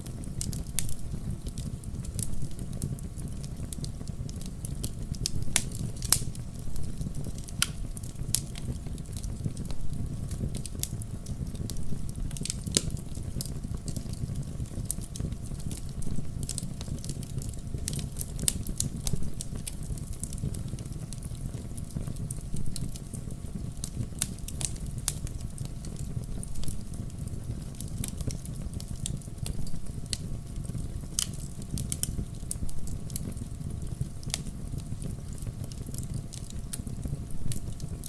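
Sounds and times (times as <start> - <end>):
campfire flames rumbling: 0.0 - 38.0
fire crackling and popping: 0.0 - 38.0.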